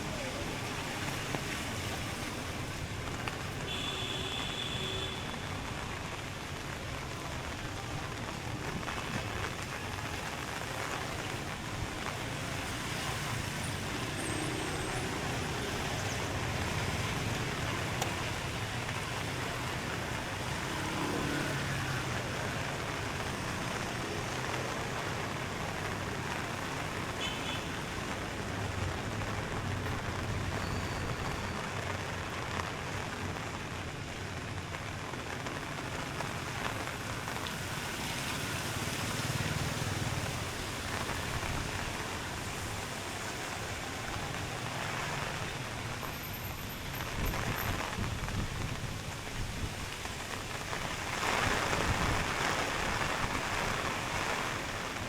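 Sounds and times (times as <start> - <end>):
rain: 0.0 - 55.0
vehicles passing on wet roads: 0.0 - 55.0.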